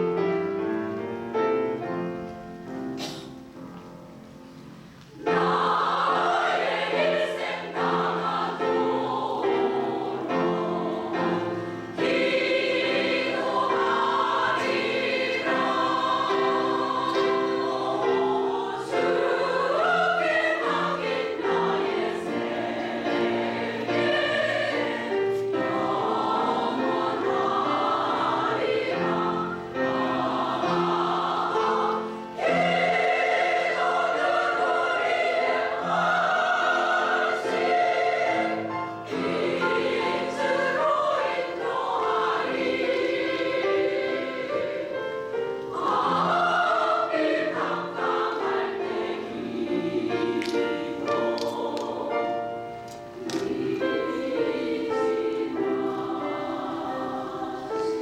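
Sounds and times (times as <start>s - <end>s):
soft piano accompaniment: 0.0s - 58.0s
women's choir singing: 0.0s - 58.0s.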